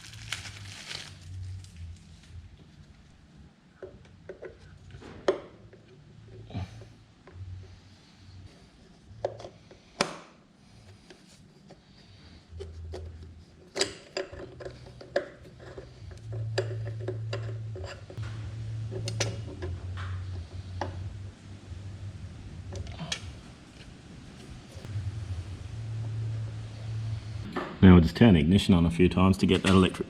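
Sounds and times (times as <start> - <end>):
low hum: 0.0 - 9.8, 11.8 - 30.0.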